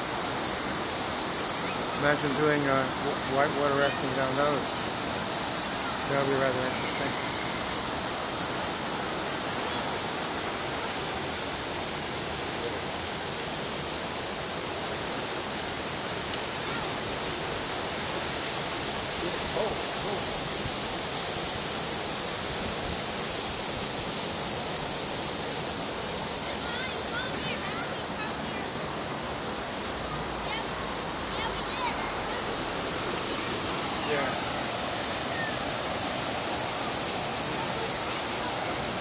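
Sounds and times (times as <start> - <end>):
river water rushing over rocks: 0.0 - 39.0.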